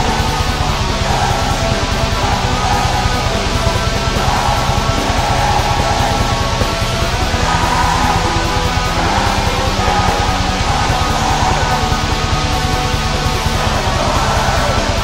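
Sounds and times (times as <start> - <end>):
distorted electric guitar: 0.0 - 15.0
rapid drumming: 0.0 - 15.0.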